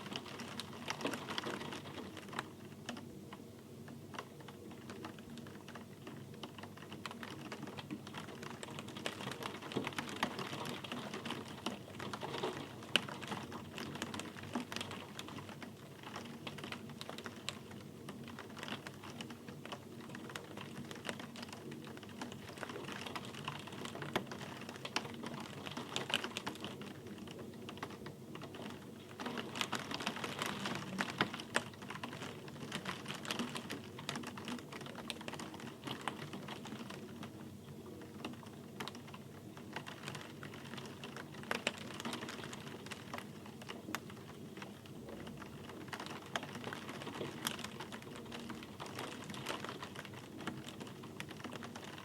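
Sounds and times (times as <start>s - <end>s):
raindrops clicking on hard surface: 0.0s - 52.0s.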